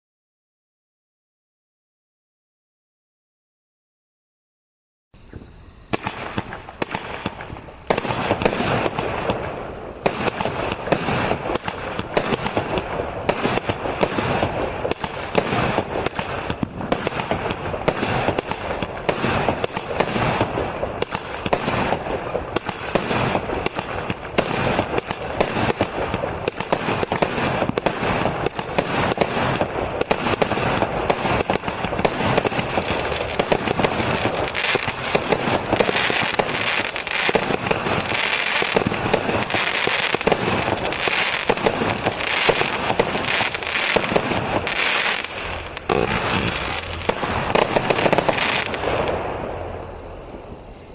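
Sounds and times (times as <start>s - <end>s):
firework barrage: 5.2s - 50.9s.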